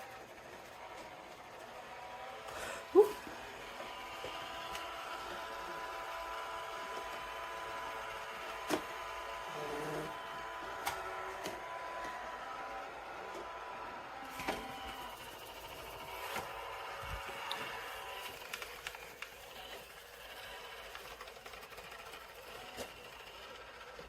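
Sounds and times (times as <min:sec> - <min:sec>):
robot vacuum whine: 0:00.0 - 0:24.0.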